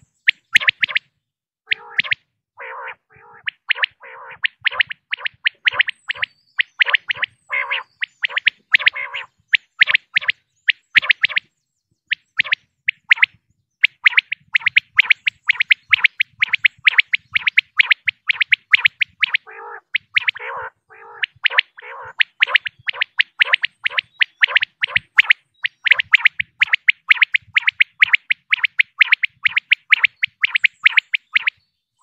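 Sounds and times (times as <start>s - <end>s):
quail calling: 1.7s - 11.5s, 12.1s - 31.6s.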